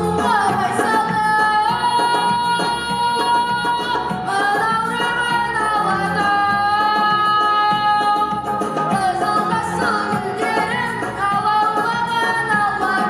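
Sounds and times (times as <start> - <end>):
boy singing into microphone: 0.0 - 13.0
instrumental backing track: 0.0 - 13.0.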